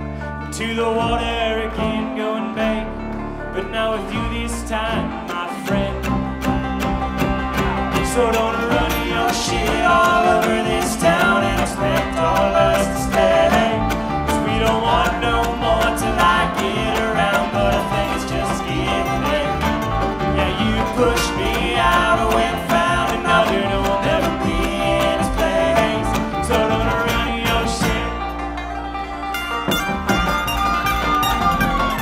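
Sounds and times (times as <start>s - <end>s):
banjo picking: 0.0s - 32.0s
mandolin picking: 0.0s - 32.0s
upright bass walking line: 0.0s - 32.0s
acoustic guitar picking: 1.0s - 32.0s.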